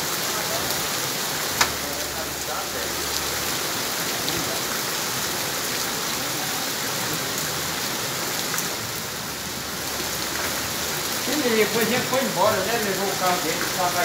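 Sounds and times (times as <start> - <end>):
heavy rain on cobblestones: 0.0 - 14.0
running water: 0.0 - 14.0.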